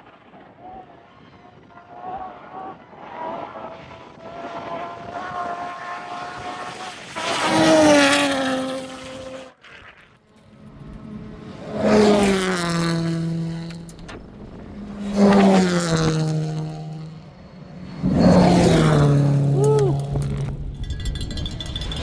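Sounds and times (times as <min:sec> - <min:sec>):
rally cars passing at speed: 0:02.0 - 0:22.0.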